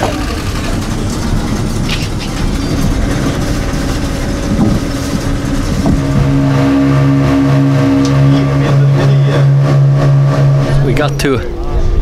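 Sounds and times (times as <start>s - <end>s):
boat engine running: 0.0s - 11.6s.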